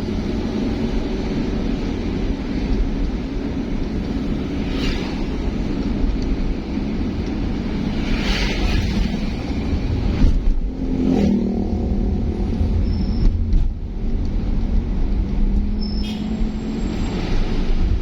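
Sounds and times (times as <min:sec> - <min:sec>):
vehicle engine and tyre rumble: 0:00.0 - 0:18.0.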